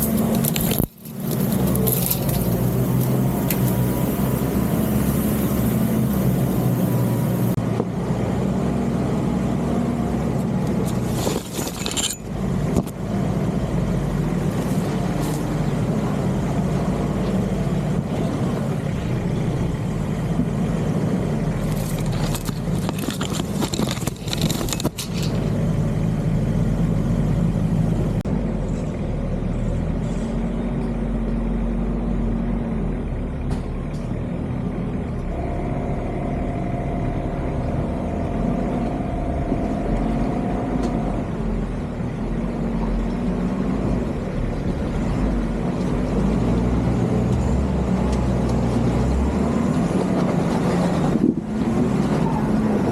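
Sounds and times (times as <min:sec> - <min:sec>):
engine running at low speed: 0:00.0 - 0:52.9.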